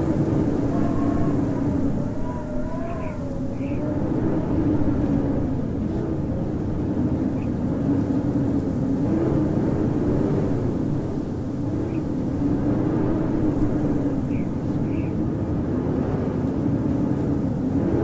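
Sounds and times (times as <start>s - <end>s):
howling wind: 0.0s - 18.0s.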